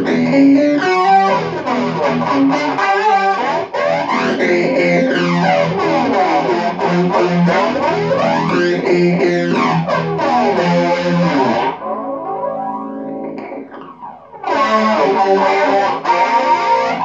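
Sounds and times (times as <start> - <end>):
electric guitar with effects: 0.0 - 17.0.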